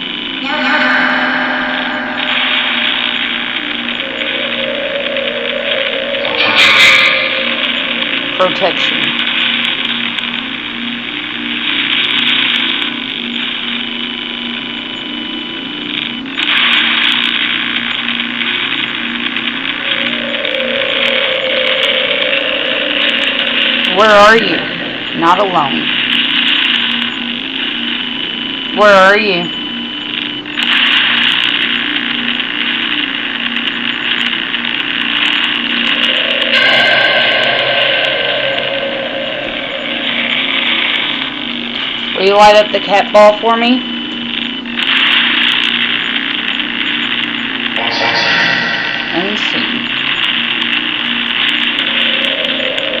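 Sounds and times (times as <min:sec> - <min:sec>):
wavering low hum: 0:00.0 - 0:30.4, 0:31.8 - 0:44.9, 0:46.6 - 0:53.0
fragments of broadcast sound: 0:00.0 - 0:53.0
radio static: 0:00.0 - 0:53.0.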